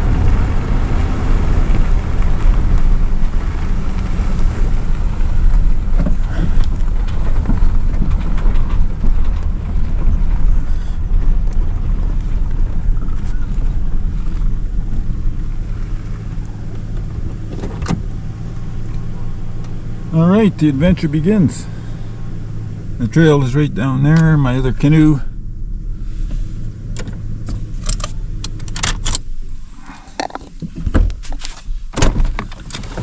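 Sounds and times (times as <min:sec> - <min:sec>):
vehicle engine and road rumble: 0:00.0 - 0:33.0.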